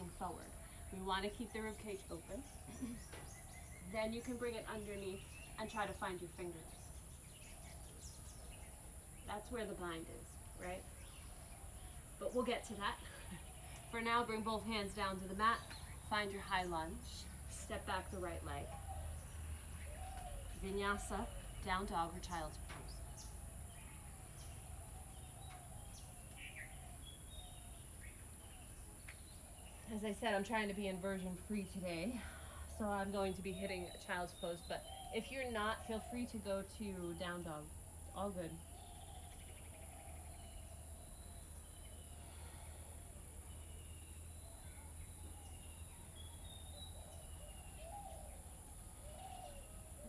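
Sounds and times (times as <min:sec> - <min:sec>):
faint songbirds chirping: 0:00.0 - 0:50.0.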